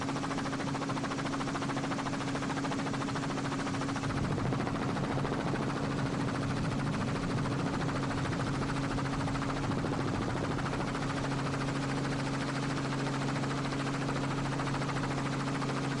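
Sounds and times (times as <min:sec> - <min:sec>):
helicopter engine drone: 0:00.0 - 0:16.0
helicopter rotor chop: 0:00.0 - 0:16.0.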